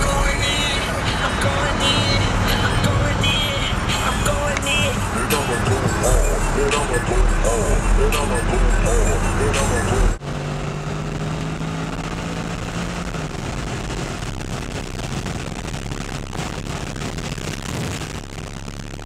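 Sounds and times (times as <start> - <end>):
road noise: 0.0 - 18.0
car engine tone: 0.0 - 19.0.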